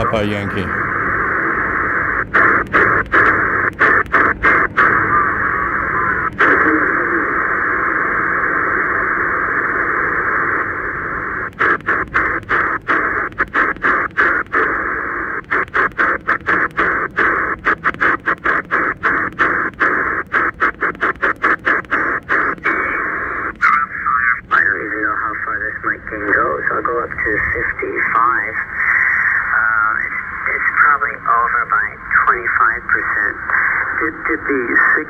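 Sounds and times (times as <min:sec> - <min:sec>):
garbled sideband radio signal: 0:00.0 - 0:35.0
shortwave radio hiss: 0:00.0 - 0:35.0.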